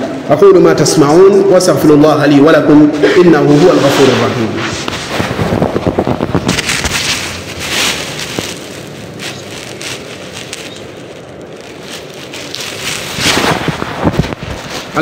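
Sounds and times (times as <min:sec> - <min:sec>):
even hiss of noise: 0:00.0 - 0:15.0.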